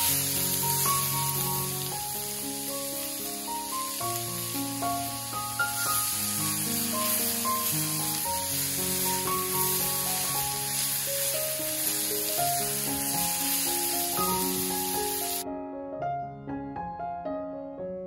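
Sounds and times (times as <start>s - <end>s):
vegetables sizzling in a pan: 0.0s - 15.4s
slow melodic background music: 0.0s - 18.0s.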